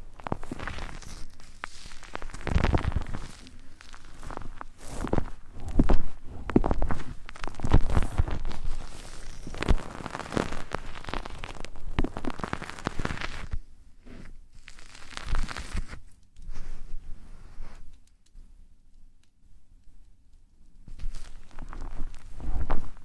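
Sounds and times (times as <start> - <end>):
rubbing on a microphone: 0.0 - 18.0, 20.9 - 23.0.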